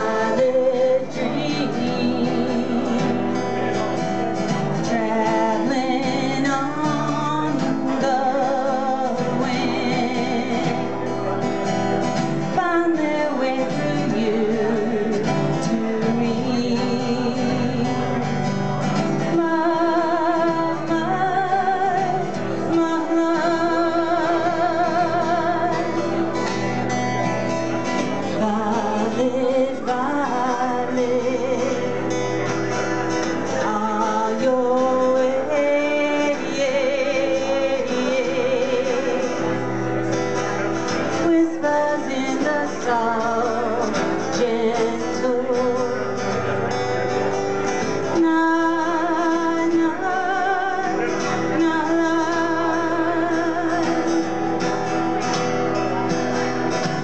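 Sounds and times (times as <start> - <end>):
acoustic guitar: 0.0 - 57.0
person singing with vibrato: 0.0 - 57.0.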